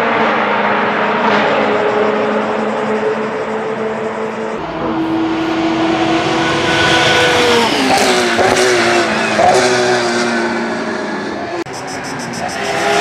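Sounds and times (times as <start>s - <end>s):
racing car engine passing: 0.0s - 11.6s.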